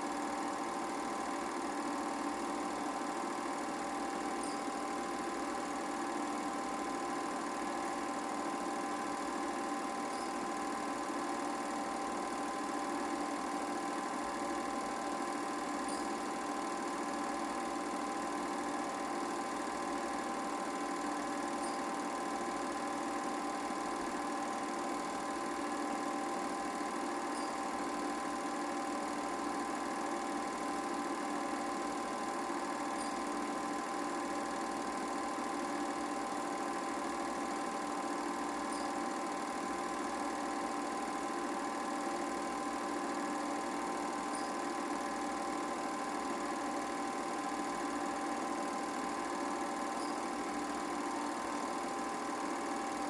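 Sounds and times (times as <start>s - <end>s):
film projector whirring: 0.0s - 53.0s.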